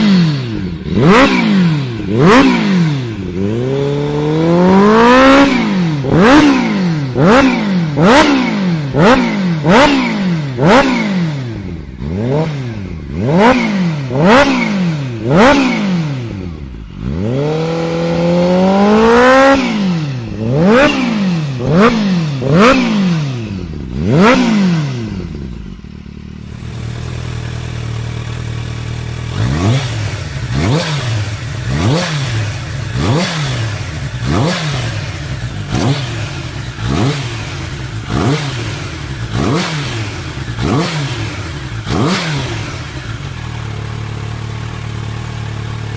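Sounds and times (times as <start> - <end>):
motorcycle engine revving in blips: 0.0 - 45.9.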